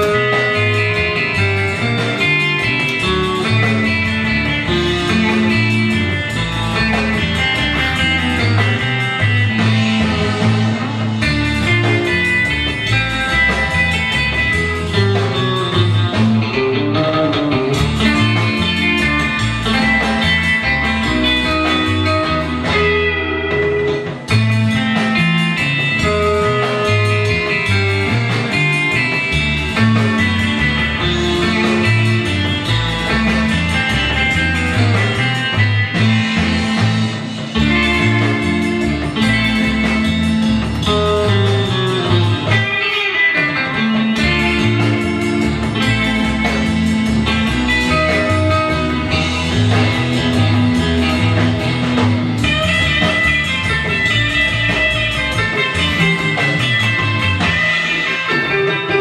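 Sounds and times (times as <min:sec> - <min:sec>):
rockabilly music: 0:00.0 - 0:59.0.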